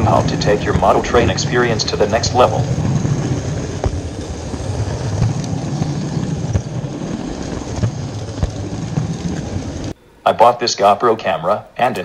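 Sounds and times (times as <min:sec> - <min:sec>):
model train rumbling on track: 0:00.0 - 0:10.0
sharp track clicks: 0:00.0 - 0:10.0.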